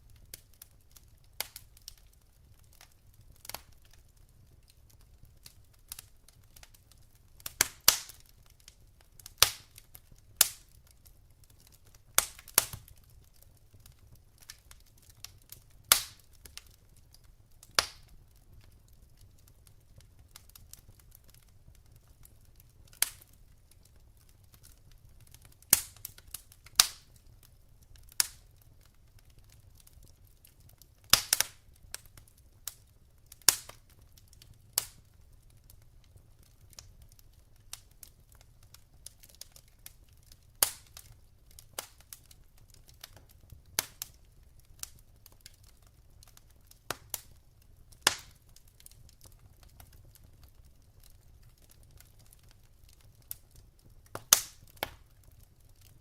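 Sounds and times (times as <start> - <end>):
burning logs popping: 0.0 - 56.0
wood fire crackling: 0.0 - 56.0.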